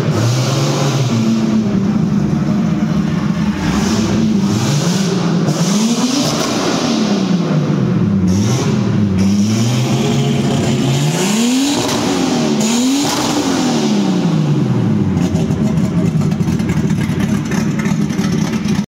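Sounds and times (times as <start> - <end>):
race car engine revving and idling: 0.0 - 18.9.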